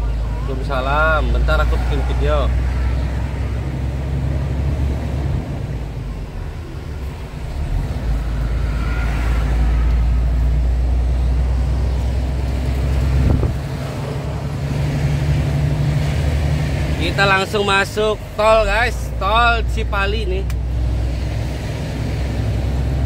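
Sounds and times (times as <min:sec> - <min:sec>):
truck diesel engine droning: 0:00.0 - 0:23.0.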